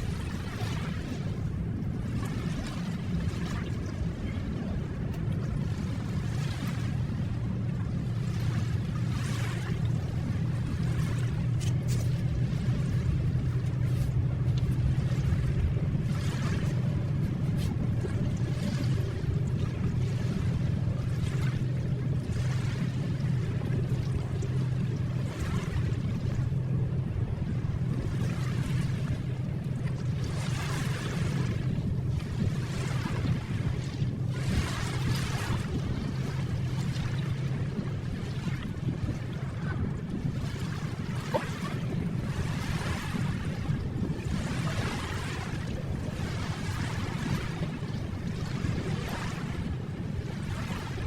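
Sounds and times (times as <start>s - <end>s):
ocean waves washing: 0.0s - 51.0s.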